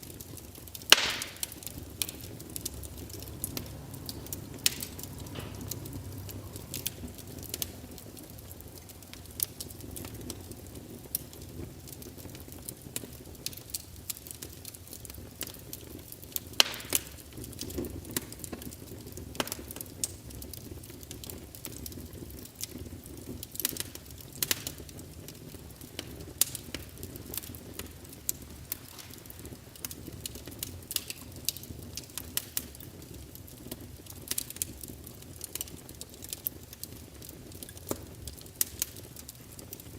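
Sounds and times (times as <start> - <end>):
fire crackling and popping: 0.0 - 39.9
low rumble of burning: 0.0 - 39.9.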